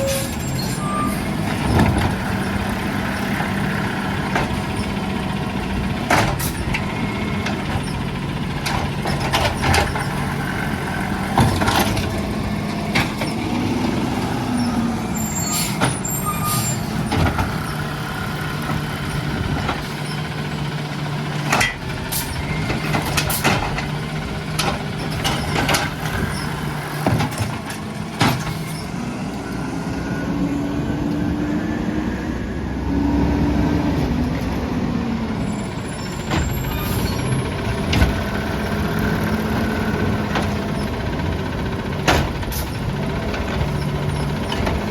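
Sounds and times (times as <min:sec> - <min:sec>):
garbage truck engine revving: 0:00.0 - 0:44.9.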